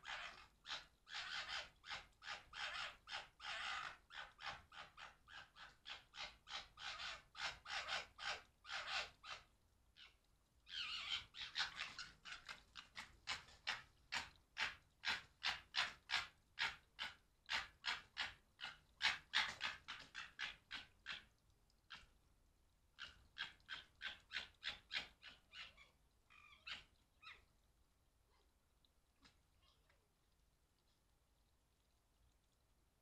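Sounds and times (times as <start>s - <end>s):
foxes gekkering: 0.0s - 22.1s, 23.0s - 27.6s.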